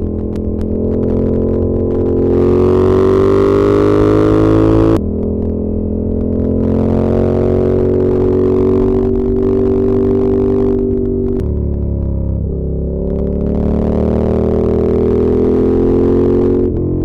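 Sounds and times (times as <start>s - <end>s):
motorcycle engine running under load: 0.0s - 17.0s.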